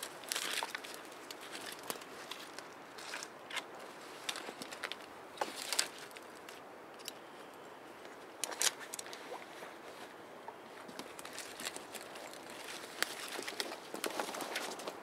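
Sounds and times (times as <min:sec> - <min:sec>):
twigs snapping and knocking: 0:00.0 - 0:07.2, 0:08.3 - 0:09.4, 0:10.8 - 0:15.0
branches rustling and brushing: 0:00.0 - 0:15.0.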